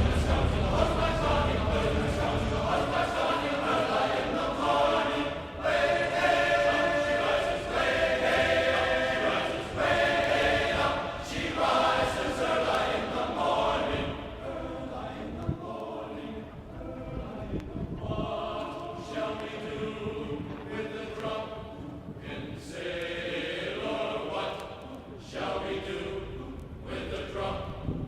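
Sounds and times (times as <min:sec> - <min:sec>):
group of voices singing: 0:00.0 - 0:28.0.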